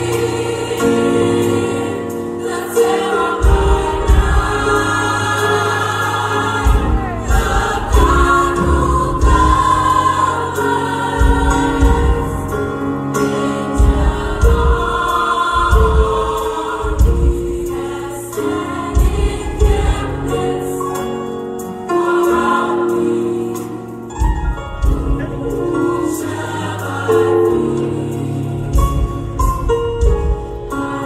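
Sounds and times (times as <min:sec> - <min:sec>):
choir singing in harmony: 0:00.0 - 0:31.0.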